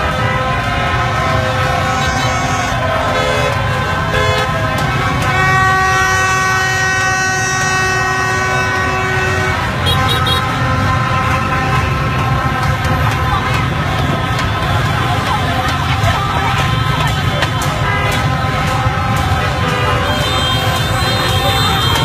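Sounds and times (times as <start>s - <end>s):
rumble of motorbikes and revellers: 0.0s - 22.0s.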